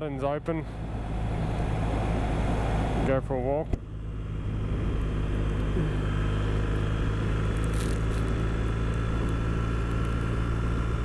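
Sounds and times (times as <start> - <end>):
motorcycle engine cruising: 0.0 - 11.0
road noise: 0.0 - 11.0.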